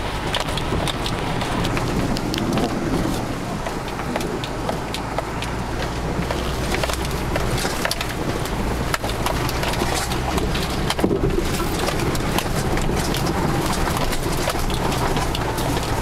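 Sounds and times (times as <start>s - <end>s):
knocks and rattles: 0.0s - 16.0s
vehicle engine rumbling: 0.0s - 16.0s.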